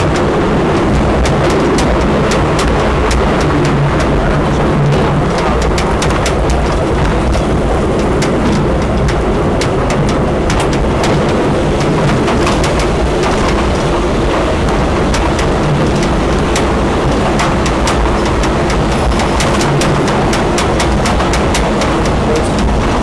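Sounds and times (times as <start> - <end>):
train clicks and knocks: 0.0 - 23.0
train wheels rumbling on rails: 0.0 - 23.0.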